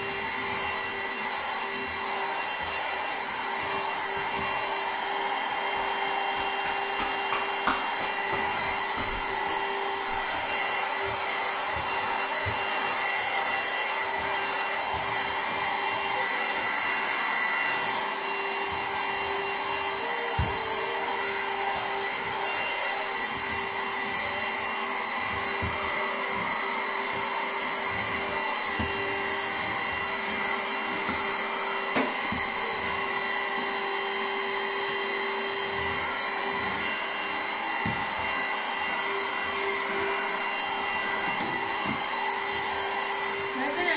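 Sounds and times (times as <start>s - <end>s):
handheld vacuum cleaner whining: 0.0s - 43.9s.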